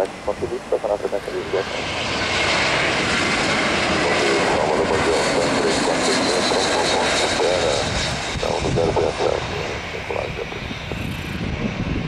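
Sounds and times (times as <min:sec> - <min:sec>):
high engine whine: 0:00.0 - 0:12.0
jet engines roaring: 0:00.0 - 0:12.0.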